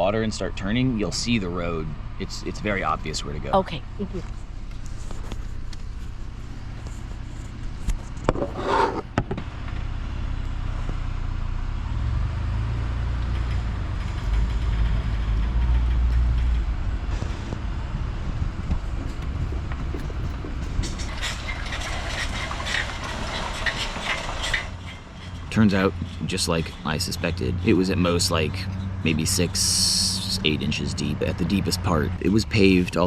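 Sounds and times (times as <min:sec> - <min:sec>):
pickup truck engine rumbling: 0:00.0 - 0:33.0.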